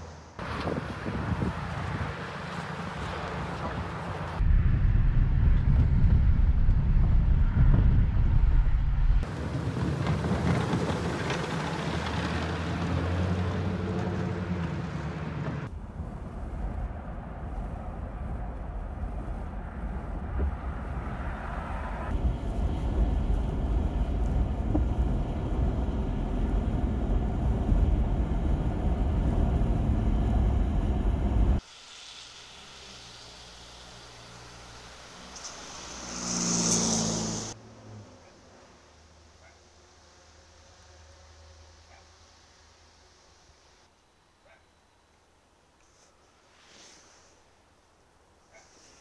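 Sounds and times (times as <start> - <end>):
vehicle engine hum: 0.0 - 44.0
road and wind noise: 0.0 - 49.0.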